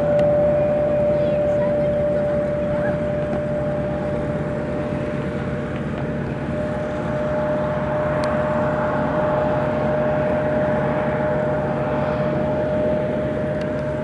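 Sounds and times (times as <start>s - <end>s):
auxiliary power unit whine: 0.0s - 14.0s
turbine rush: 0.0s - 14.0s.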